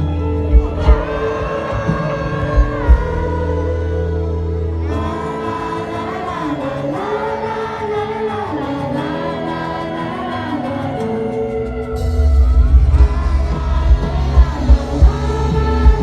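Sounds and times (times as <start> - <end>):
crowd singing along: 0.0 - 16.0
pop song over loudspeakers: 0.0 - 16.0.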